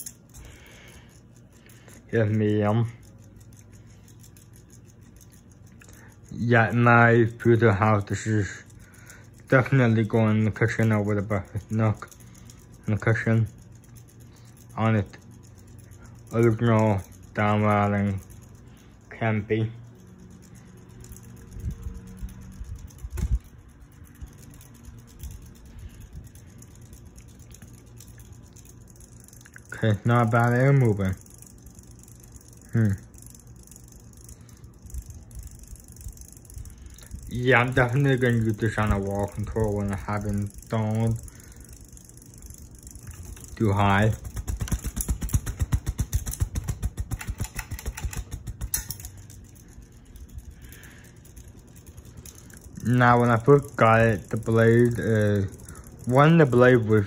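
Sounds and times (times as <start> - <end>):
ceiling fan humming: 0.0 - 57.0.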